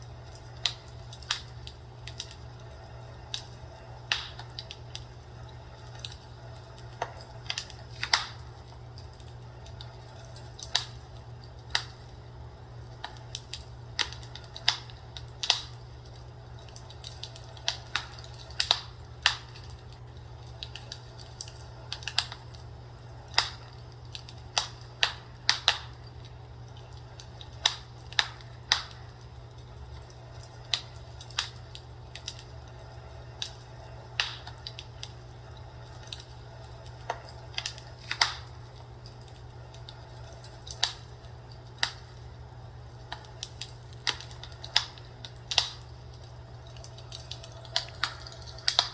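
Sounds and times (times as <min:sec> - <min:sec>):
fireplace crackling and popping: 0:00.0 - 0:48.9
steady low hum: 0:00.0 - 0:48.9.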